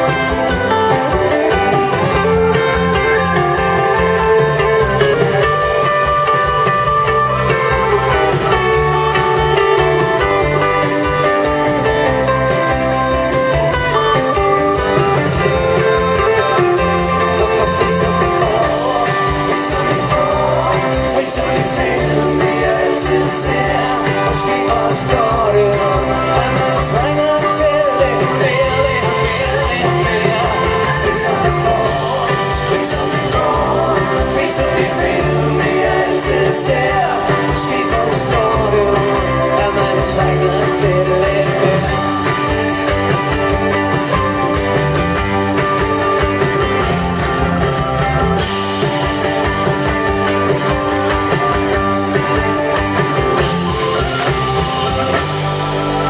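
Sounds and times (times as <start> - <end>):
person singing: 0.0 - 45.0
live band playing pop-rock: 0.0 - 56.0.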